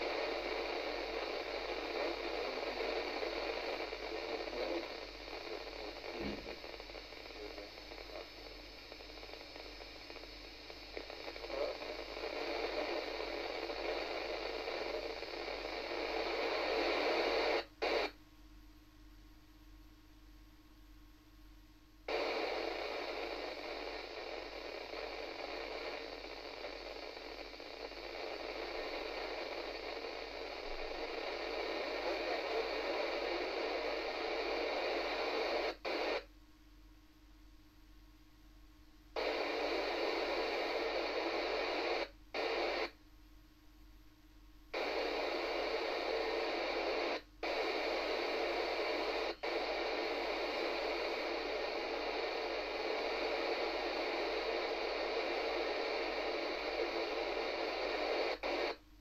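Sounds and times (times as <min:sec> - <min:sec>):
radio static hiss: 0:00.0 - 0:18.2, 0:21.9 - 0:36.3, 0:39.1 - 0:43.0, 0:44.7 - 0:59.0.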